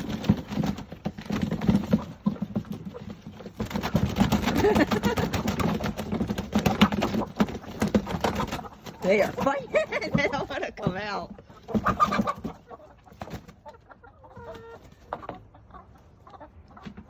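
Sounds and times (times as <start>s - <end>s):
chickens scrabbling and flapping: 0.0s - 17.0s.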